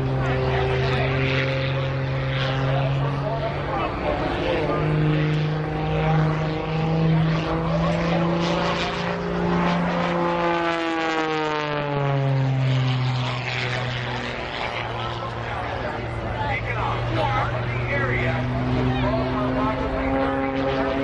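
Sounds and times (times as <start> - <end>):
propeller plane droning overhead: 0.0 - 21.0.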